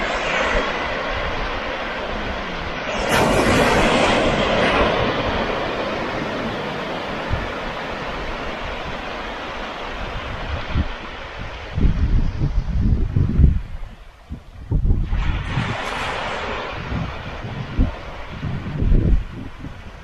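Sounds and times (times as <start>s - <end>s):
ocean surf on rocks: 0.0s - 20.0s
wind: 0.0s - 20.0s.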